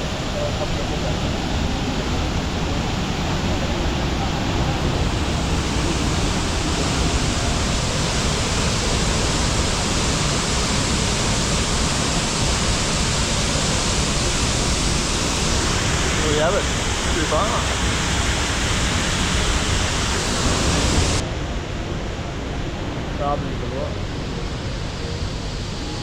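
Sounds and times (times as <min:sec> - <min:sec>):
waterfall rushing: 0:00.0 - 0:21.2.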